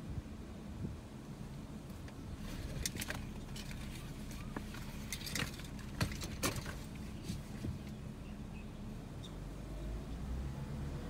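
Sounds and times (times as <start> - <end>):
gusty wind rumble: 0.0 - 11.0.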